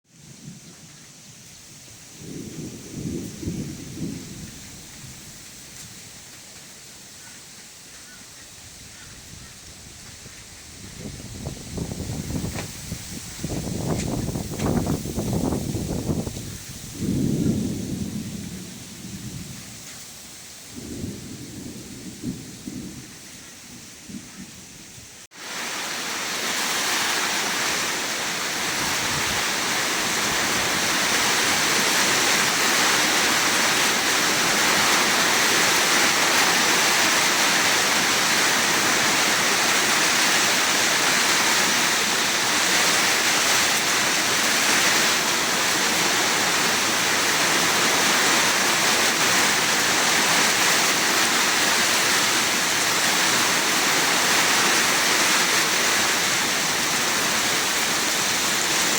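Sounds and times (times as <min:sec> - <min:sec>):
heavy rain pouring: 0:00.2 - 0:58.9.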